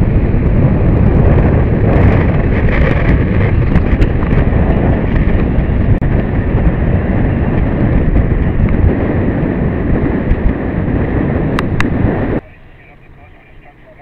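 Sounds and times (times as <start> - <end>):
boat engine: 0.0 - 14.0
wind buffeting microphone: 0.0 - 14.0.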